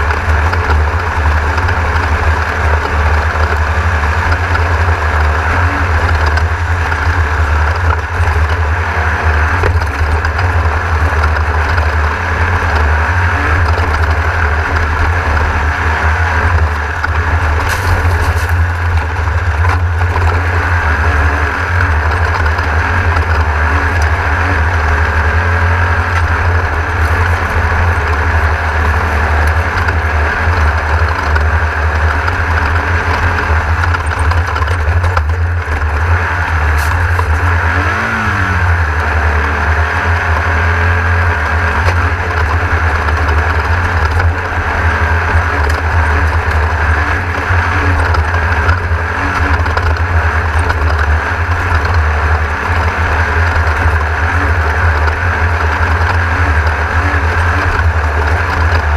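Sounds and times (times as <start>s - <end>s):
race car engine droning: 0.0s - 58.9s.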